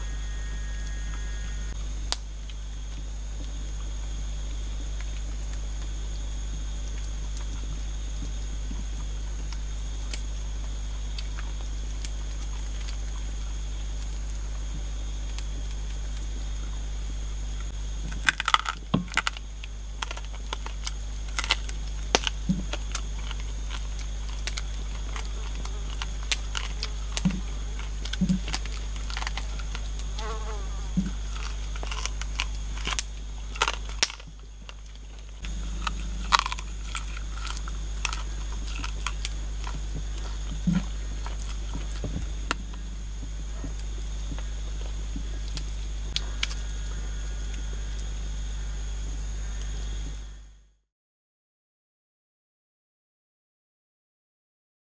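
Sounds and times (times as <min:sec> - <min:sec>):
forest insects droning: 0:00.0 - 0:50.8.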